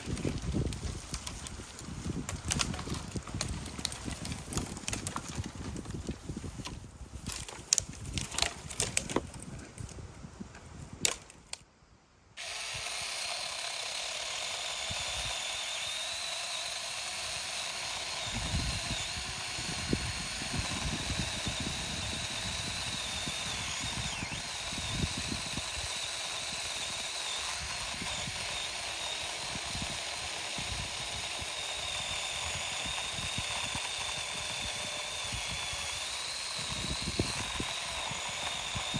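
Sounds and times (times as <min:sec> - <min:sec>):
electric chainsaw cutting branch: 0:00.0 - 0:09.2, 0:12.4 - 0:38.9.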